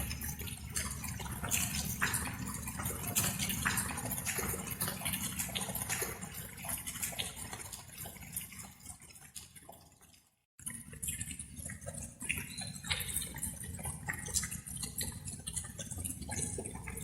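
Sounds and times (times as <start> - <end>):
water dripping: 0.0 - 17.0.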